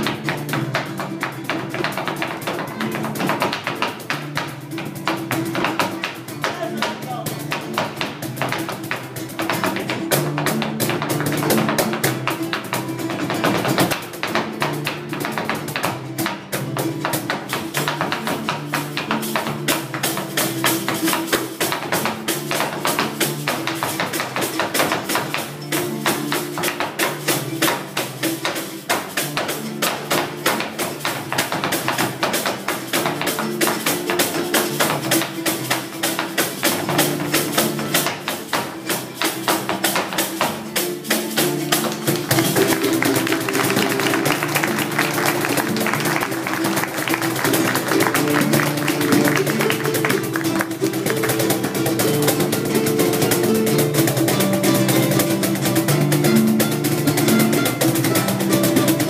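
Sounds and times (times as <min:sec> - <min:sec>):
cajon percussion: 0:00.0 - 0:59.0
strummed acoustic guitars: 0:00.0 - 0:59.0.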